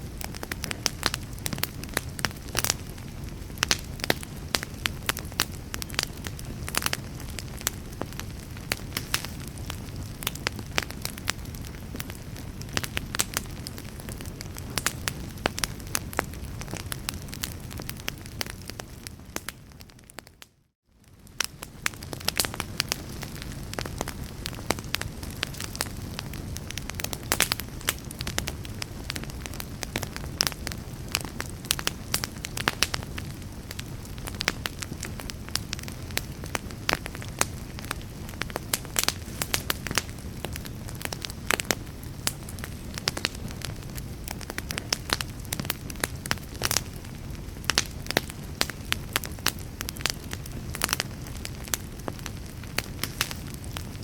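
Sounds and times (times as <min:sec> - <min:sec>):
low rush of flames: 0:00.0 - 0:20.2, 0:21.0 - 0:54.0
burning wood crackling and popping: 0:00.0 - 0:54.0.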